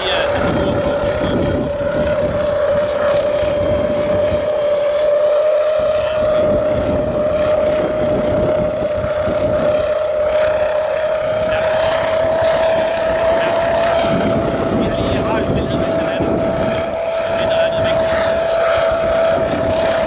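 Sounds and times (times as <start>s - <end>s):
drone propellers humming: 0.0s - 20.0s
wind rumbling on microphone: 0.0s - 20.0s.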